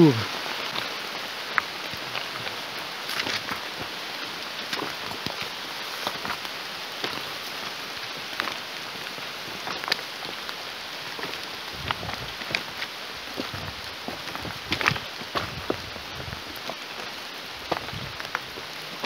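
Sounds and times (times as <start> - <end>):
rain on foliage and rocks: 0.0 - 19.0.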